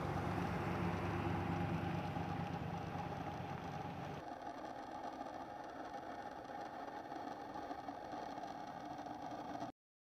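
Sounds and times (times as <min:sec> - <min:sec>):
vehicle engine idling: 0:00.0 - 0:09.7.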